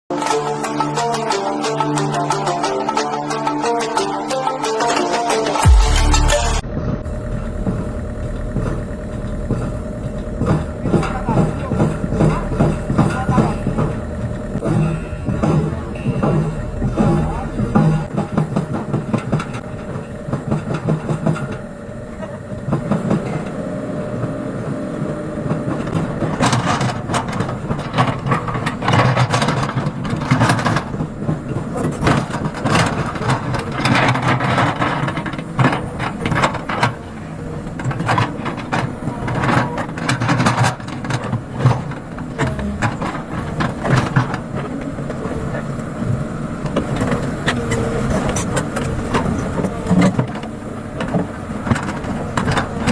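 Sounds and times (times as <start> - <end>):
excavator diesel engine running: 0.1 - 52.9
metallic clanks and scraping: 4.7 - 23.5, 25.5 - 52.9.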